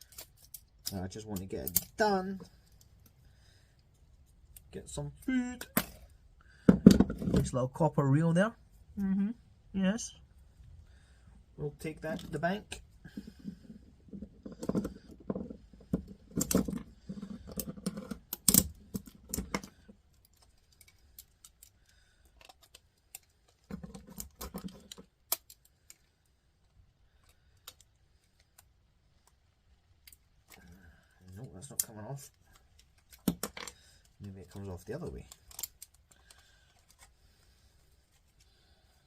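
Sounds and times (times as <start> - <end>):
small parts clicking and rattling: 0.0 - 7.5, 13.1 - 39.0.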